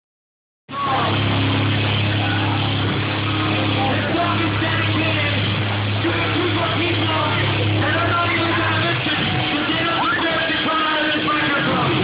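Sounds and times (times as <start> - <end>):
crowd yelling: 0.7 - 12.0
live metal band playing: 0.7 - 12.0.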